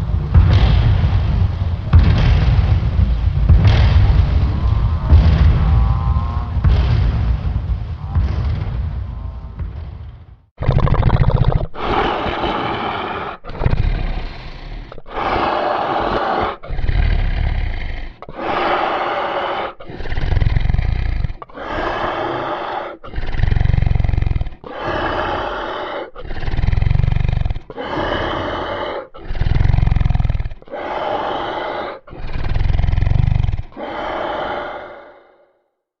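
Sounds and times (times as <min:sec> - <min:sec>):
monster growling roars: 0:03.7 - 0:35.6.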